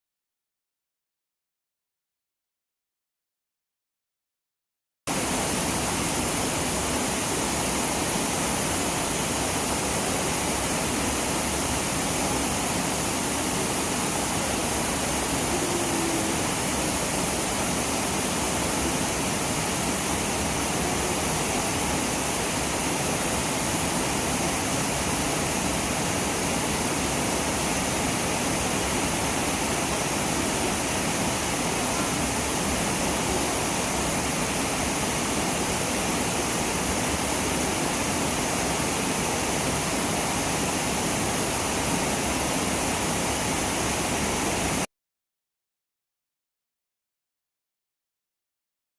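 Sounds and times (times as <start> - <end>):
waterfall rushing: 5.1 - 44.9.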